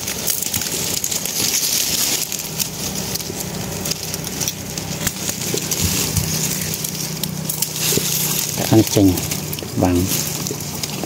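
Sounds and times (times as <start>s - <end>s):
rustling and crackling handling: 0.0s - 11.0s.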